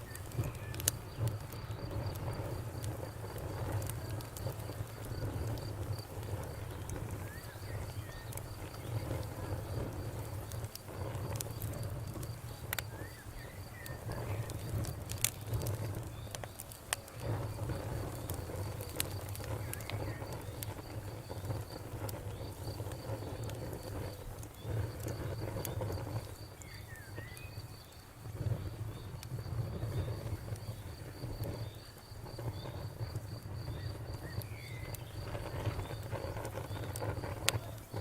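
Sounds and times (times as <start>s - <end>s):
campfire crackling and popping: 0.0s - 38.0s
insect chirping: 0.0s - 38.0s.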